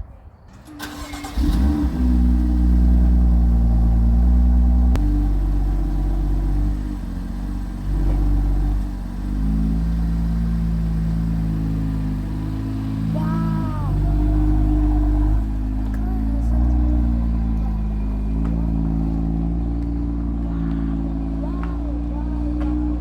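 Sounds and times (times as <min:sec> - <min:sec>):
car engine starting and idling: 0:00.6 - 0:23.0.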